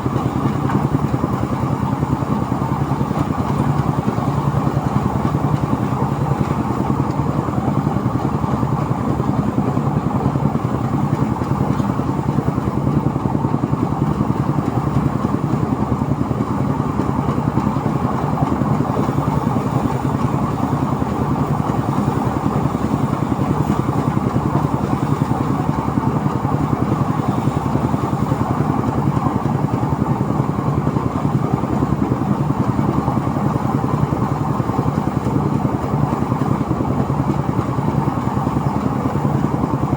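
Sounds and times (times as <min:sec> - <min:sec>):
threshing machine engine: 0:00.0 - 0:39.9.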